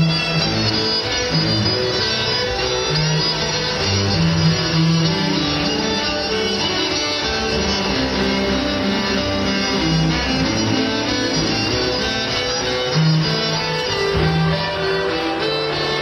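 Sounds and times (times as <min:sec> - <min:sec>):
cellos playing heavy rock: 0:00.0 - 0:16.0.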